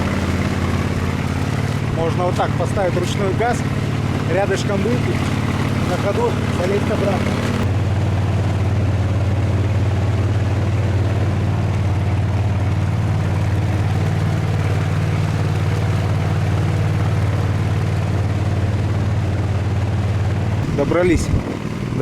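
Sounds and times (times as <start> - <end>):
engine droning steadily: 0.0 - 22.0.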